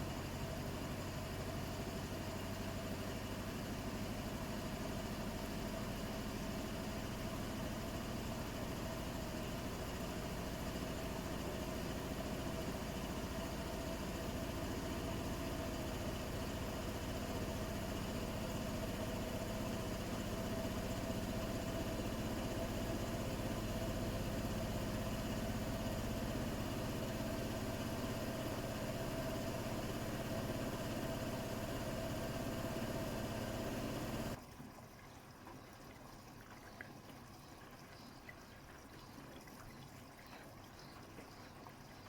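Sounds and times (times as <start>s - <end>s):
washing machine humming: 0.0s - 42.0s.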